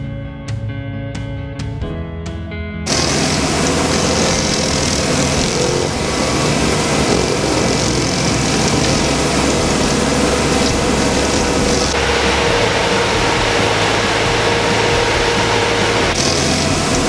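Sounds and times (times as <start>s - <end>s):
cutter wheel grinding stump: 2.9s - 17.0s
stump grinder engine running: 2.9s - 17.0s.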